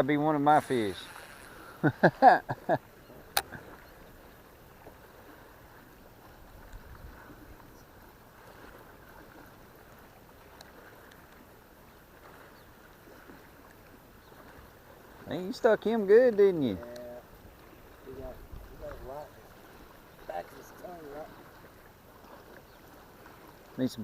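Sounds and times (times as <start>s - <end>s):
light wind: 0.0s - 24.0s
water lapping: 0.0s - 24.0s.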